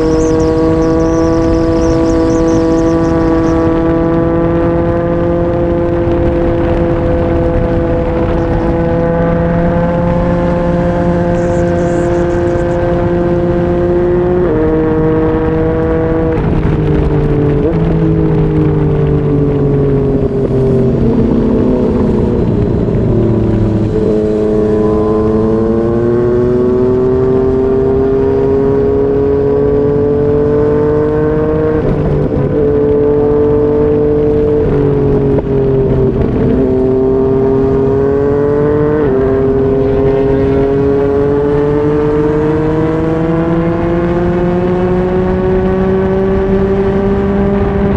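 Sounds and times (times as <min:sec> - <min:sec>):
motorcycle engine running: 0:00.0 - 0:47.9
wind rush: 0:00.0 - 0:47.9.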